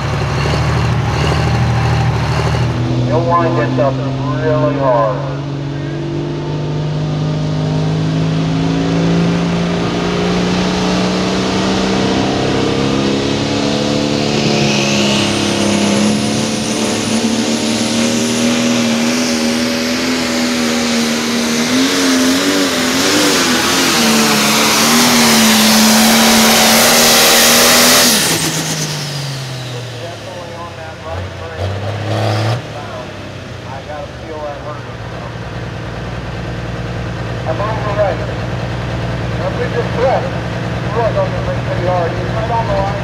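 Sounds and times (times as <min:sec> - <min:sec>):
diesel engine at full throttle: 0:00.0 - 0:43.0.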